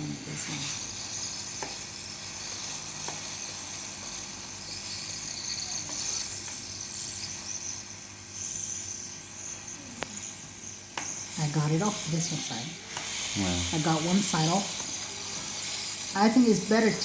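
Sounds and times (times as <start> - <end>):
hot-air blower hissing: 0.0 - 17.0.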